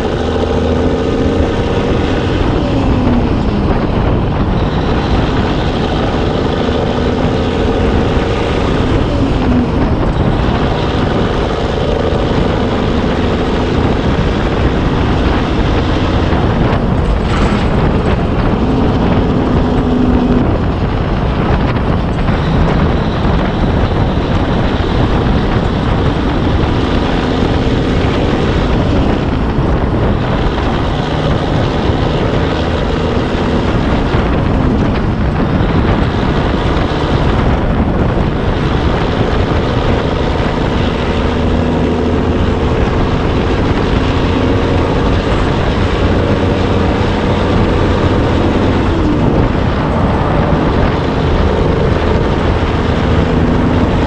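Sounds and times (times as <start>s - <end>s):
road noise: 0.0s - 54.0s
truck diesel engine driving: 0.0s - 54.0s.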